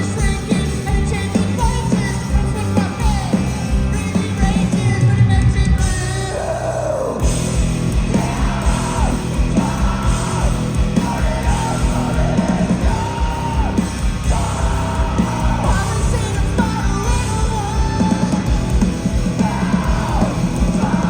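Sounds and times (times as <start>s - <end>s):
singer yelling vocals: 0.0s - 7.4s, 8.0s - 21.0s
live rock band playing: 0.0s - 21.0s.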